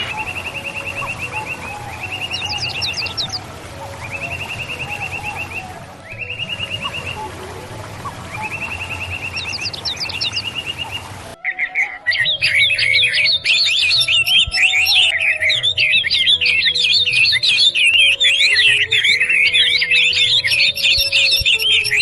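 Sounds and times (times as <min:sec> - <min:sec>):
bird trilling: 0:00.0 - 0:22.0
chorus of birds chirping: 0:00.0 - 0:22.0.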